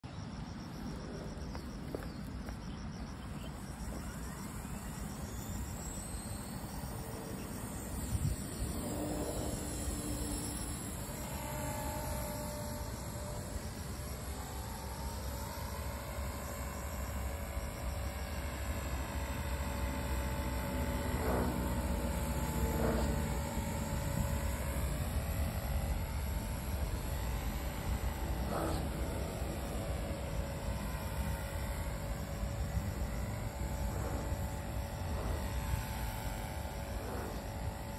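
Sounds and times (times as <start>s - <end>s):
faint rising whine: 0.0s - 37.9s
insect chirping: 0.0s - 37.9s.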